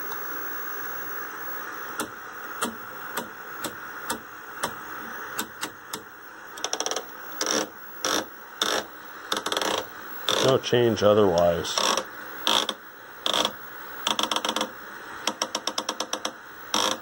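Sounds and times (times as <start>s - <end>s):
television static hiss: 0.0s - 17.0s.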